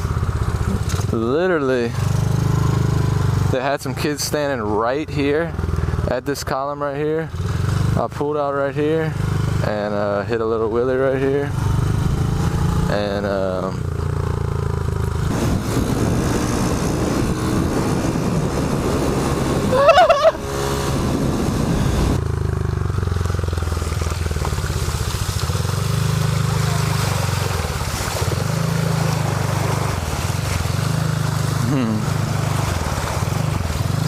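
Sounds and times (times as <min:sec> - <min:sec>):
small motorcycle engine running: 0:00.0 - 0:04.0, 0:07.2 - 0:08.0, 0:08.8 - 0:09.9, 0:10.8 - 0:34.0.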